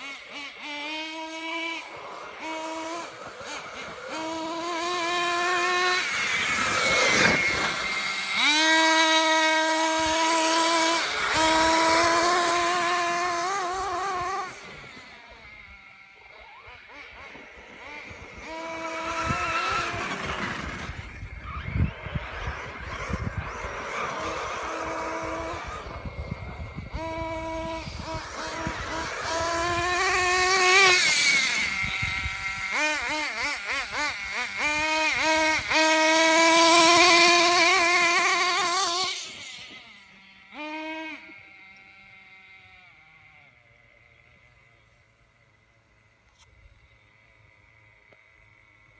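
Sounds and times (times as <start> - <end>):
model car motor buzzing: 0.0 - 48.9.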